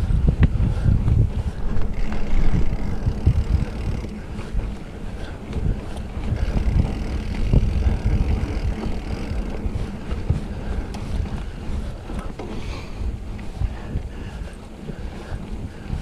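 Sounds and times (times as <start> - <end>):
bike tyres thumping over bumps: 0.0 - 16.0
wind buffeting microphone: 0.0 - 16.0.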